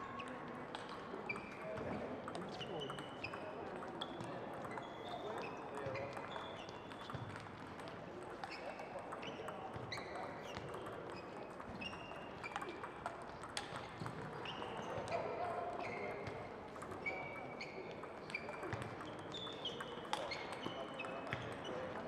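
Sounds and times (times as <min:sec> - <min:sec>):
table tennis ball ticking: 0:02.2 - 0:15.1, 0:15.9 - 0:22.0.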